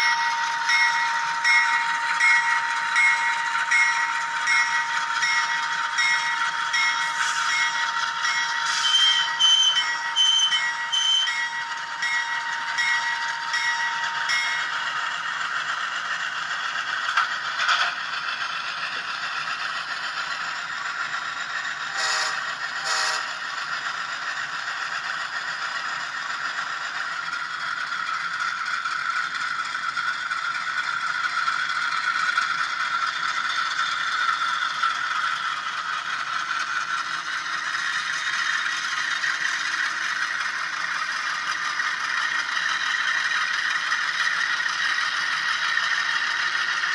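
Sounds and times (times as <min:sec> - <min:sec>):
model locomotive engine sound: 0:00.0 - 0:46.9.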